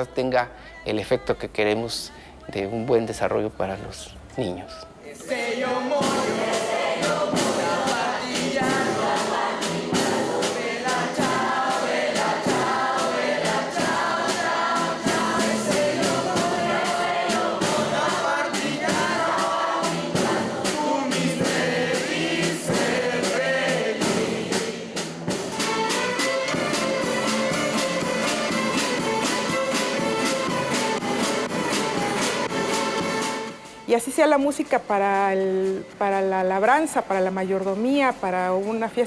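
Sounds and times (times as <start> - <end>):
folk ensemble playing: 5.2 - 37.1.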